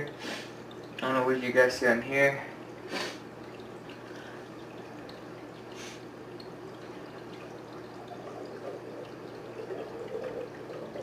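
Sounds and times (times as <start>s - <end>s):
hose water splashing into tank: 0.0s - 11.0s.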